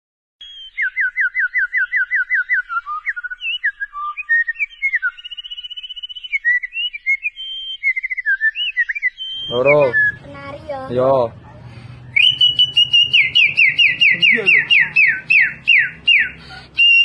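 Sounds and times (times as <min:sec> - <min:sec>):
person whistling birdsong: 0:00.4 - 0:10.2, 0:12.0 - 0:17.0.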